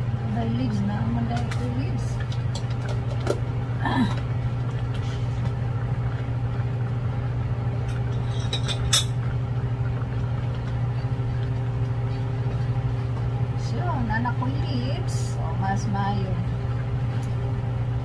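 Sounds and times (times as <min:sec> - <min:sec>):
pot boiling: 0:00.0 - 0:18.0
steady low hum: 0:00.0 - 0:18.0.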